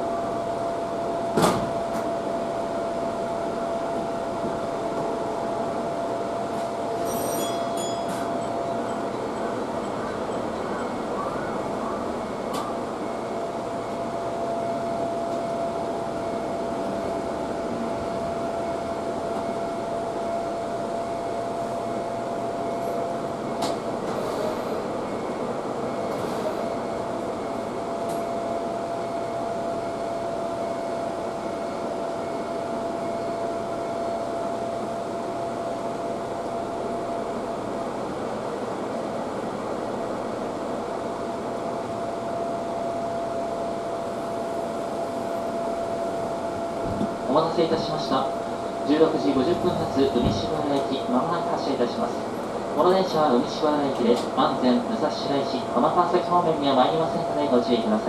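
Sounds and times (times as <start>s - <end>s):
train rolling rumble: 0.0s - 58.0s
train whine: 0.0s - 58.0s.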